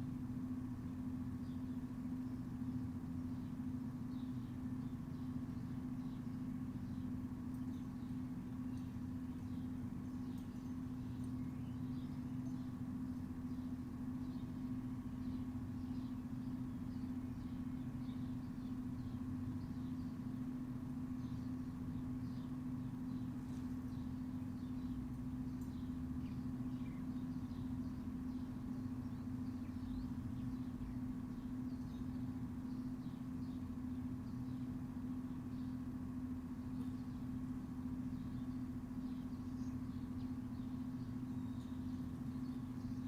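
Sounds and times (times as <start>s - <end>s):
steady low hum: 0.0s - 43.0s
faint bird chirps: 0.9s - 43.0s.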